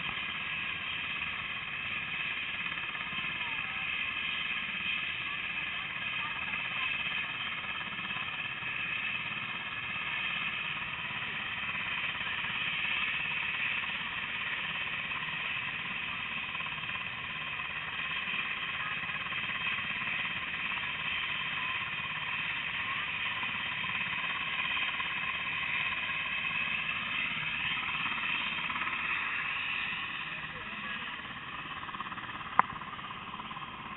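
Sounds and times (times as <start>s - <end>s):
distant helicopter idling: 0.0s - 33.9s.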